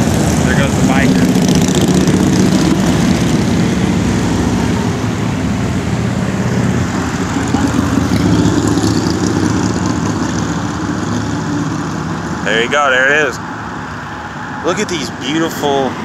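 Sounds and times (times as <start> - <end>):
highway traffic: 0.0 - 16.0.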